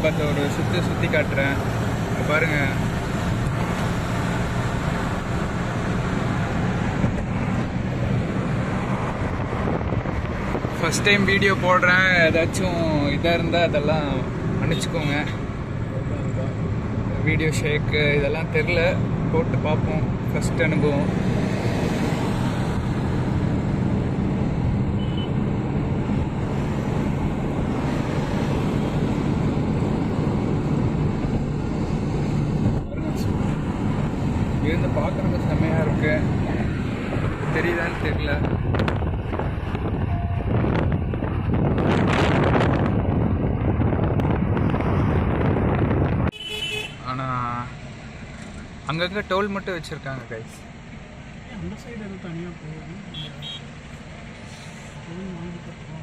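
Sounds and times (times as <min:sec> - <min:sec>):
engine and tyre hum: 0:00.0 - 0:56.0
road and wind noise in car: 0:00.0 - 0:56.0.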